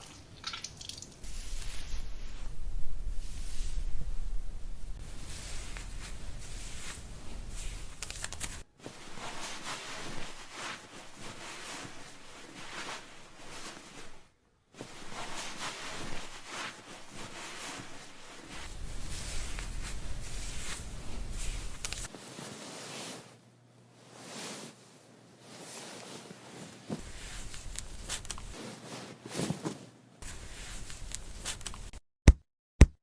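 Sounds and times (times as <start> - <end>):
crackly rustling of hair rubbed: 1.2 - 23.4, 24.0 - 32.0.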